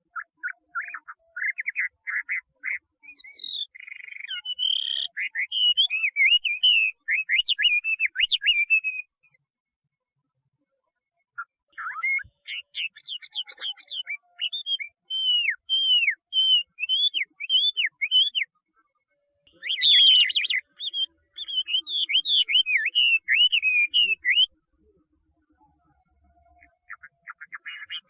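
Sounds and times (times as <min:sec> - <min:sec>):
laughingthrush whistled song: 0:00.0 - 0:09.4, 0:11.4 - 0:18.5, 0:19.5 - 0:24.6, 0:26.6 - 0:28.0.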